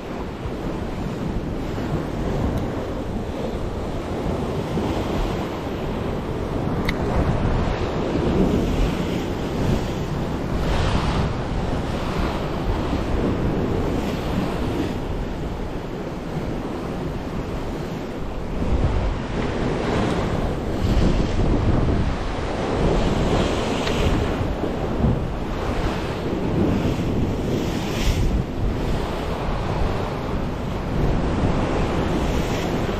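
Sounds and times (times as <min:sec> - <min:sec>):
surf on rocky shore: 0:00.0 - 0:32.9
wind buffeting microphone: 0:00.0 - 0:32.9.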